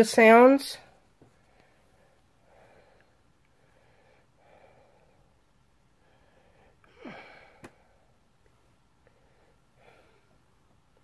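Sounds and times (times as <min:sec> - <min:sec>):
faint breaths: 0:00.9 - 0:10.7.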